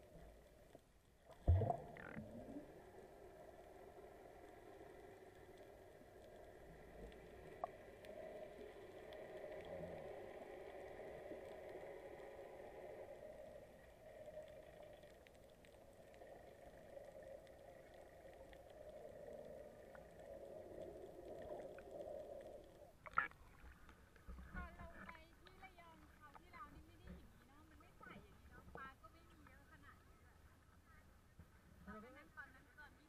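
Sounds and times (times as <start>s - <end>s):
sea water sloshing and bubbling: 0.0s - 29.1s.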